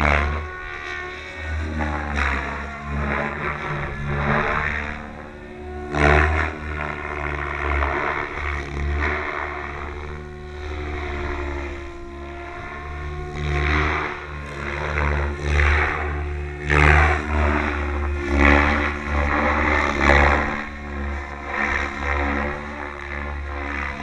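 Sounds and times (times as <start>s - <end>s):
rc helicopter rotor whirring: 0.0s - 24.0s.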